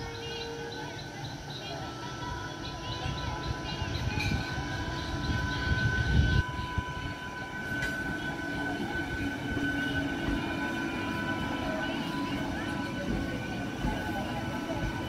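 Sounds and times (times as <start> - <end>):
high whine: 0.0 - 15.0
train wheels rumbling: 0.0 - 15.0.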